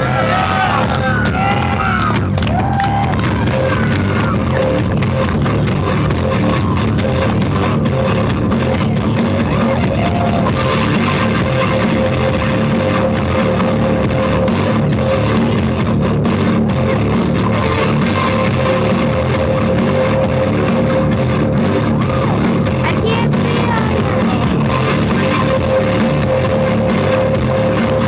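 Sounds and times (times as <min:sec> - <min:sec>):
heavy rock music: 0:00.0 - 0:28.0.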